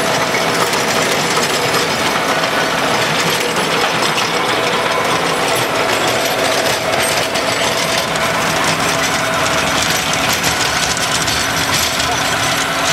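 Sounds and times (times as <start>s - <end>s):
rotary tiller rattling clatter: 0.0s - 12.9s
tractor engine under load: 0.0s - 12.9s.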